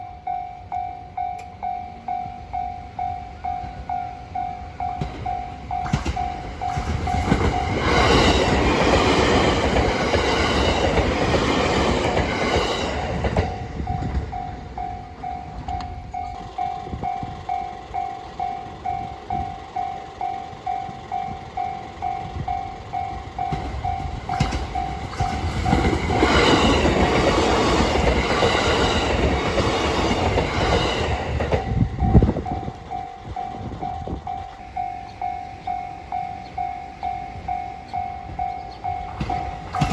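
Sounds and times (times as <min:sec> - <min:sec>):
level crossing warning bell: 0:00.0 - 0:39.9
train wheels on rails: 0:00.0 - 0:39.9.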